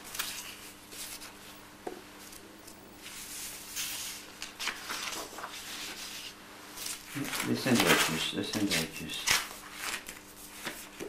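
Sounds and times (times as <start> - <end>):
paper sheets rustling: 0.0 - 1.4, 3.0 - 11.0.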